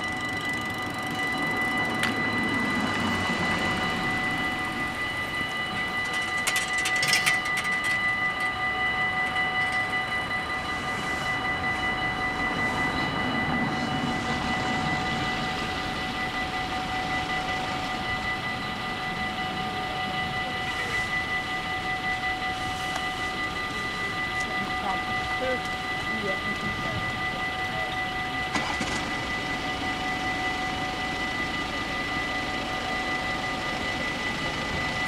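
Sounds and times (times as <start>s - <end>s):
level crossing bells ringing: 0.0s - 35.0s.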